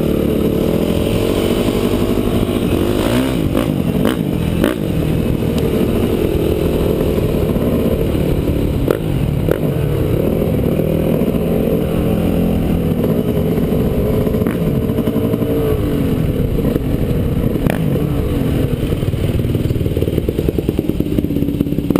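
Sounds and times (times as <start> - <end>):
dirt bike engines running: 0.0 - 21.9.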